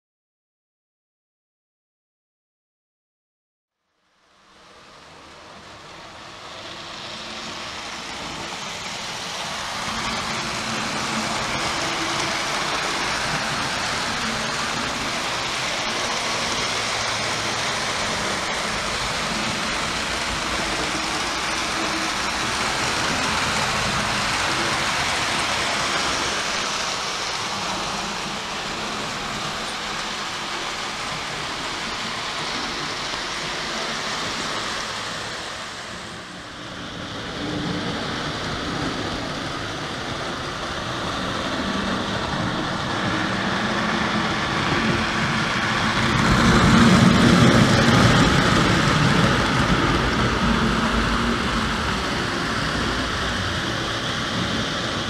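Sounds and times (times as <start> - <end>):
toy train running on track: 4.1 - 55.0.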